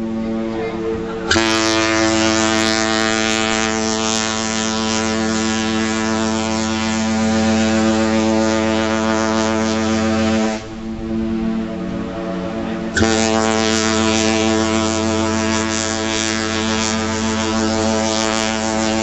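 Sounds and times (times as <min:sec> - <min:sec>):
ship's horn long deep blast: 0:00.0 - 0:19.0.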